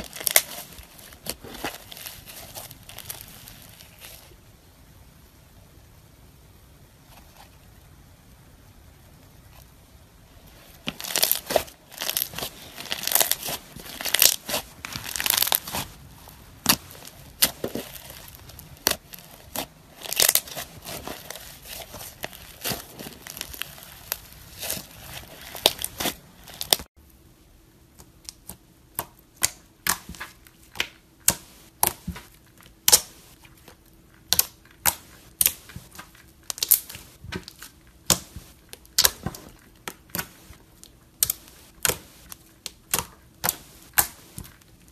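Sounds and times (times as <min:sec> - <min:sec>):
slime crackling and tearing: 0:00.0 - 0:04.4, 0:10.8 - 0:26.9, 0:29.4 - 0:44.9.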